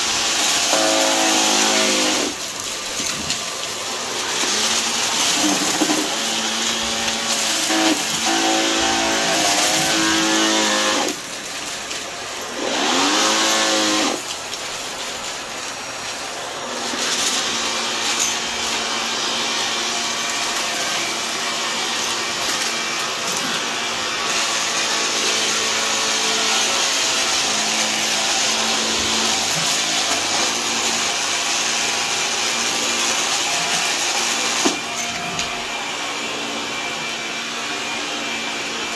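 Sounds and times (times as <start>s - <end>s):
upright vacuum running: 0.0s - 38.9s.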